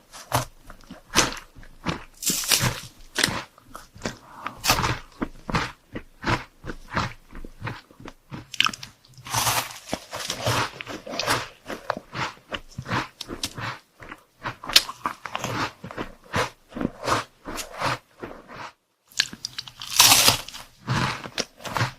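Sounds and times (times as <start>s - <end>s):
person crunching chocolate sweets: 0.0s - 21.9s.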